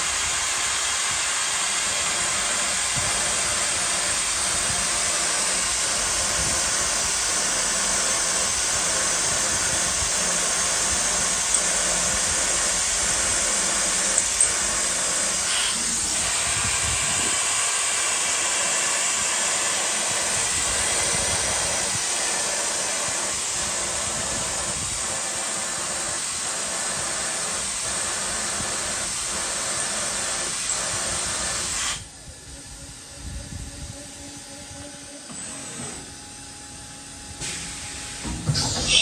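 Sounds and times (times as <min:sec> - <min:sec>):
compressed air hissing: 0:00.0 - 0:32.2, 0:37.4 - 0:39.0
milling cutter cutting: 0:00.8 - 0:32.1.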